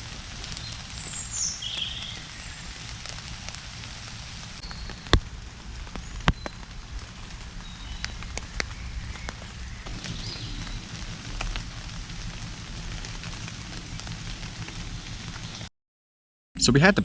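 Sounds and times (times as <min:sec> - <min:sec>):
rain pattering on a tarp: 0:00.0 - 0:15.7.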